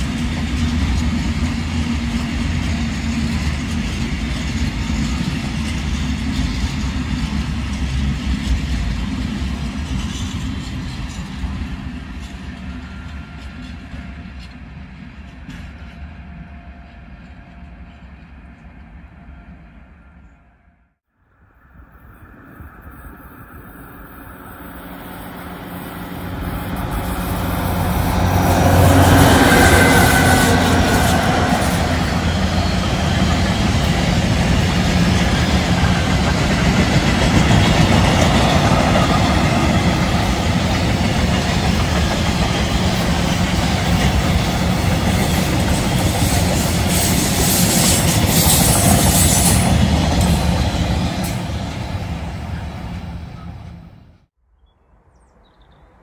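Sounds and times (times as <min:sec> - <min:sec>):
diesel locomotive engine: 0:00.0 - 0:54.3.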